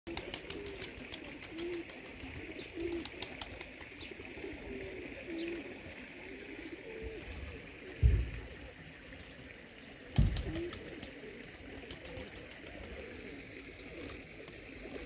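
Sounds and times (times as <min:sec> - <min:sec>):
pigeons cooing: 0:00.1 - 0:15.0.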